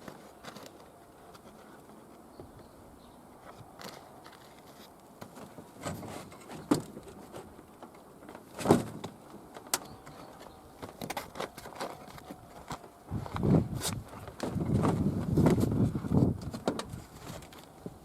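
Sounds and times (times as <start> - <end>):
knocks and light clatter: 3.5 - 18.0.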